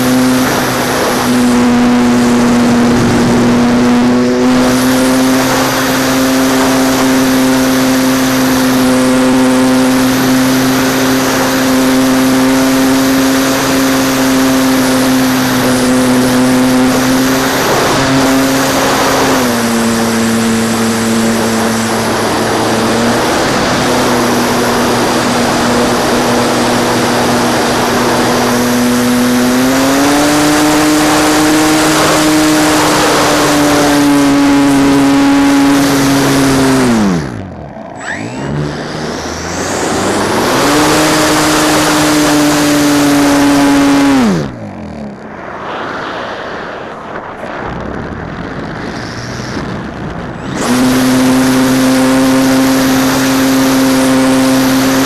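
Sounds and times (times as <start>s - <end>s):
model plane motor droning: 0.0s - 55.0s
wind noise on microphone: 0.0s - 55.0s.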